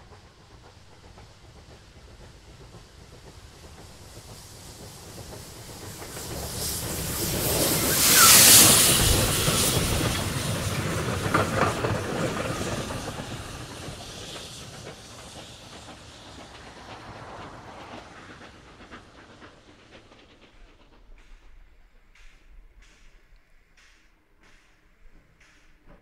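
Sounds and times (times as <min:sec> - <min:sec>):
steam hissing: 0:00.0 - 0:26.0
train wheels clicking over rails: 0:00.0 - 0:26.0.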